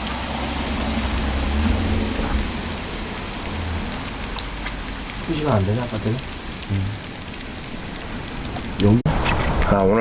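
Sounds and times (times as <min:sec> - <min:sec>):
low rumble: 0:00.0 - 0:09.0
pot boiling and bubbling: 0:00.0 - 0:09.7
fire crackling: 0:00.0 - 0:10.0.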